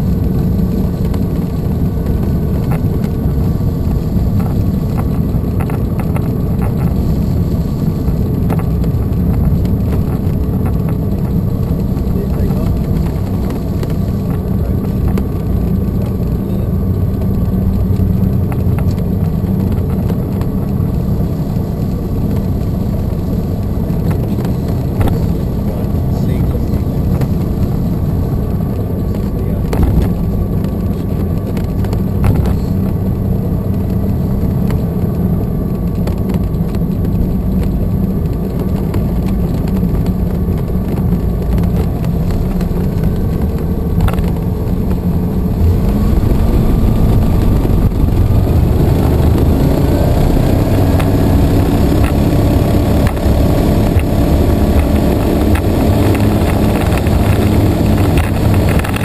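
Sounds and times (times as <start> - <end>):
propeller engine droning: 0.0 - 59.0.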